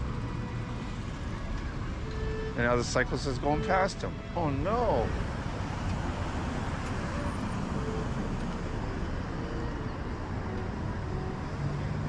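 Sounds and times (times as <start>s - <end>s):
traffic noise with low rumble: 0.0s - 12.0s.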